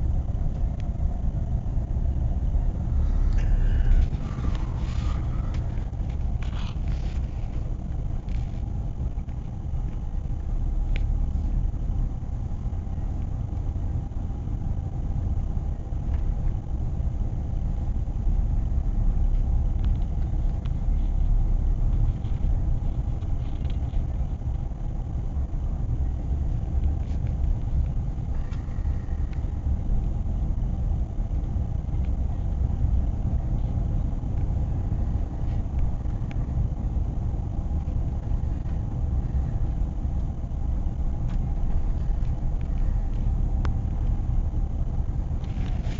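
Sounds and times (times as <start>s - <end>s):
car tyres and engine rumbling: 0.0s - 45.9s.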